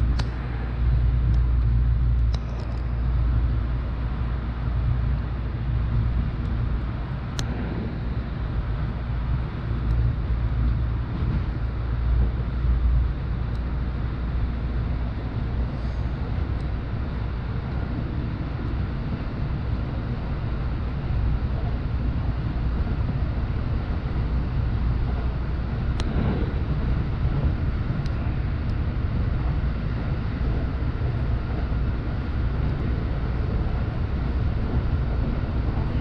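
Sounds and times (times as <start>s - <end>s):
train cabin low rumble: 0.0s - 36.0s.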